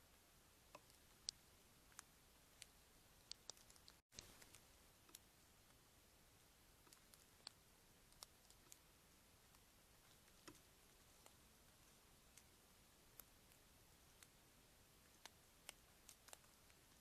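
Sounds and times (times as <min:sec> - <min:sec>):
faint irregular clicks: 0:00.0 - 0:05.9, 0:06.7 - 0:17.0.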